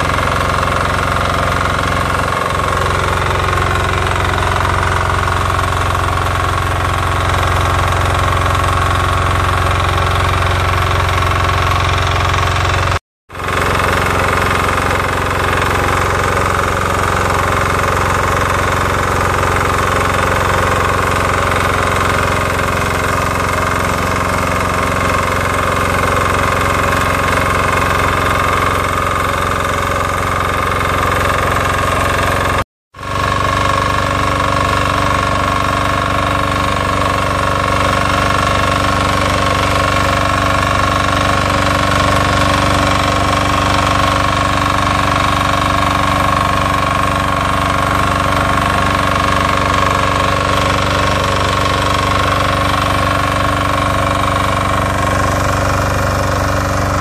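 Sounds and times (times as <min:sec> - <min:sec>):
tiller diesel engine running: 0:00.0 - 0:57.0.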